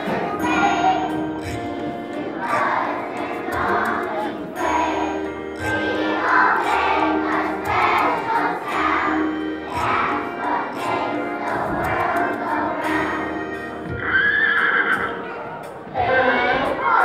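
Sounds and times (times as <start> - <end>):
children's choir singing: 0.0 - 14.1, 15.0 - 17.0.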